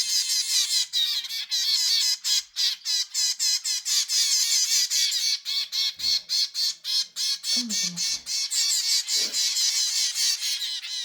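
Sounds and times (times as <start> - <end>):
baby finches chirping: 0.0 - 11.0.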